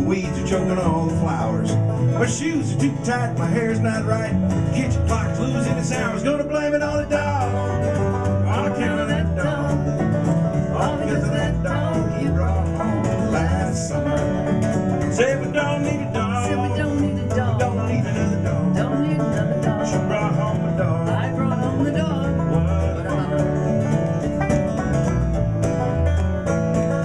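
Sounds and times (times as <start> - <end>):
acoustic guitar picking: 0.0 - 27.0
banjo: 0.0 - 27.0
mandolin: 0.0 - 27.0.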